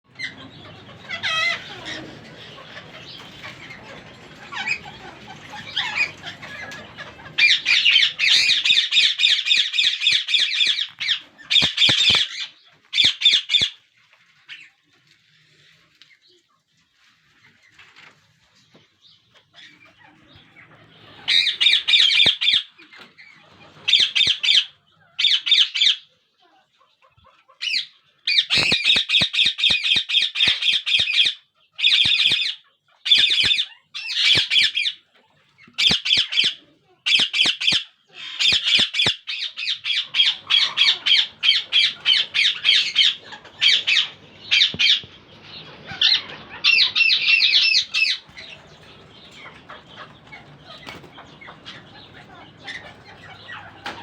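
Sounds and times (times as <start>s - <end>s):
parakeet chick chirping: 0.1s - 13.8s, 19.3s - 26.1s, 26.8s - 54.0s.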